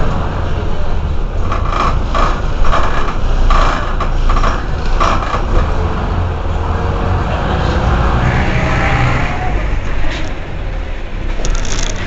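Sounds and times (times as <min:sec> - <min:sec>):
diesel bus engine idling: 0:00.0 - 0:12.0.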